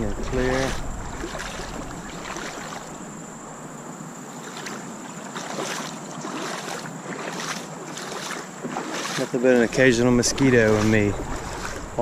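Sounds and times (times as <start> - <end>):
water splashing from footsteps: 0.0 - 3.0, 4.4 - 12.0.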